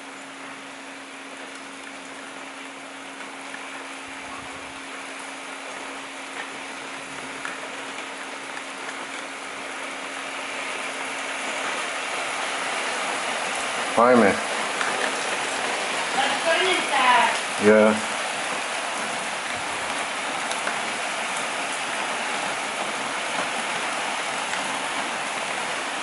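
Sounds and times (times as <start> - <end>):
rain falling: 0.0 - 26.0
raindrops ticking on surfaces: 0.0 - 26.0.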